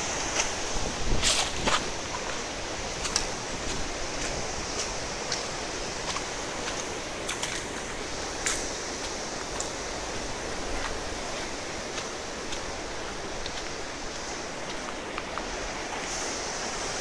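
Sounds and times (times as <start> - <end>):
rushing whitewater river: 0.0 - 17.0.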